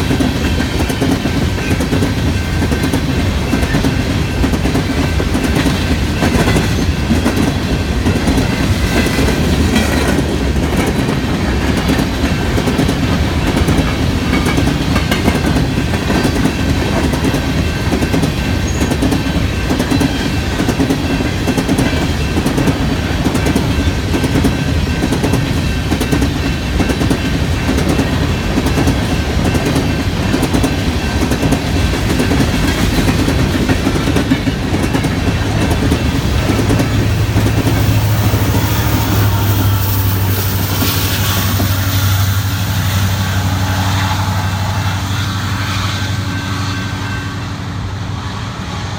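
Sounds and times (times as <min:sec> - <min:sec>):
wheels clacking over rail joints: 0:00.0 - 0:42.8
train wheels rumbling on rails: 0:00.0 - 0:48.9.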